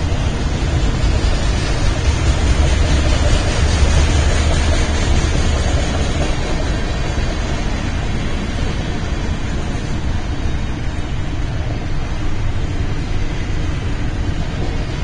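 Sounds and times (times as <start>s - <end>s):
freight train rumbling past: 0.0s - 15.0s
steel wheels on rails: 0.0s - 15.0s.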